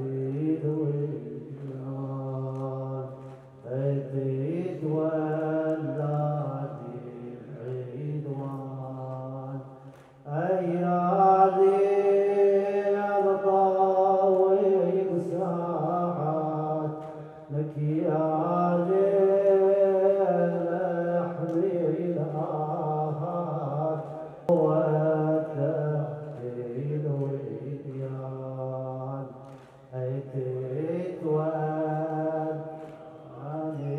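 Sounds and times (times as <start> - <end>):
man chanting solo: 0.0 - 9.6, 10.3 - 33.9.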